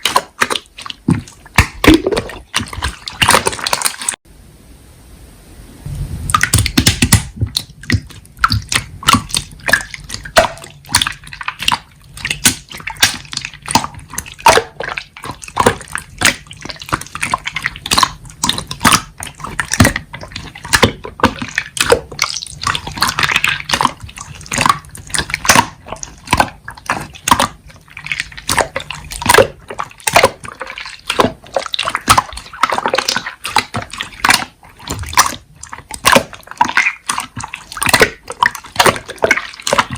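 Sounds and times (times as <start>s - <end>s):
slime squishing with wet clicks: 0.0s - 4.2s, 6.3s - 39.9s.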